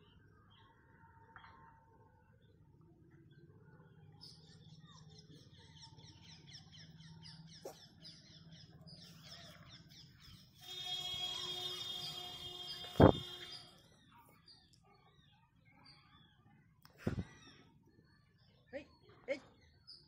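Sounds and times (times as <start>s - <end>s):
small birds chirping: 2.4s - 20.0s.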